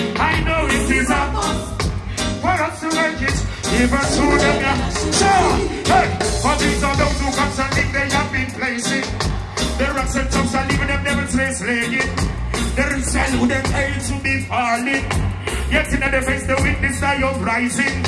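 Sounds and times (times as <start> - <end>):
live reggae band: 0.0 - 18.0
man singing: 0.0 - 18.0.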